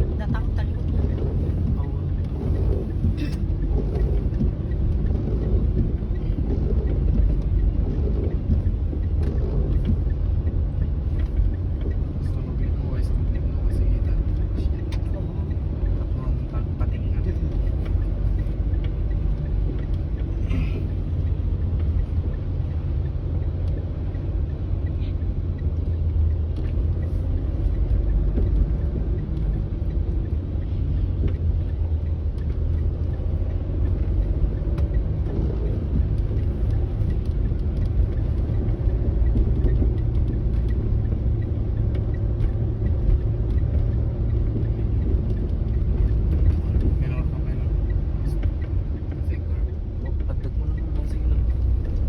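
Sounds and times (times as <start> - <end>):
car engine and road noise: 0.0 - 52.0.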